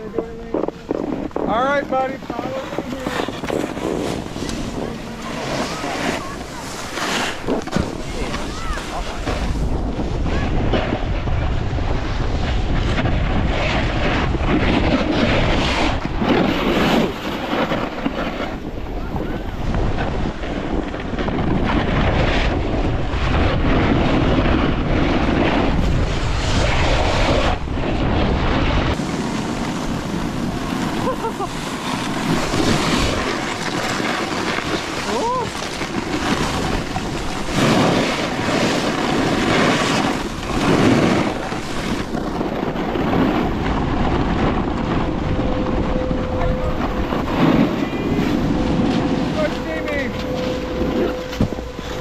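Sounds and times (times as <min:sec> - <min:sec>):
skis sliding on snow: 0:00.0 - 0:52.0
wind buffeting microphone: 0:00.0 - 0:52.0.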